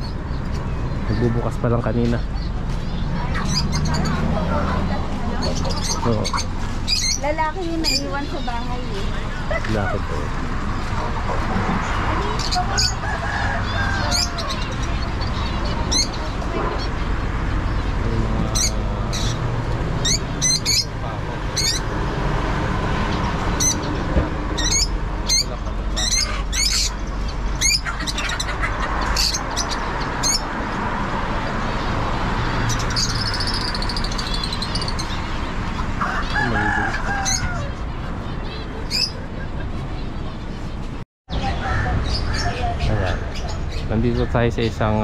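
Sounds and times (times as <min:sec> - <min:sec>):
caged birds chirping: 0:00.0 - 0:45.0.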